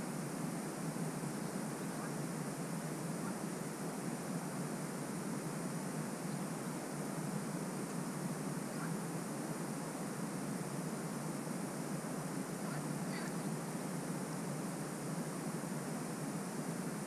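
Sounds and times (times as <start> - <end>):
steady wind noise: 0.0 - 17.0.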